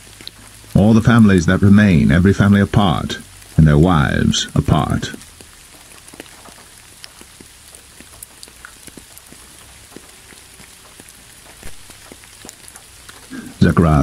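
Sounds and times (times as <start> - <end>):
light rain: 0.0 - 14.0.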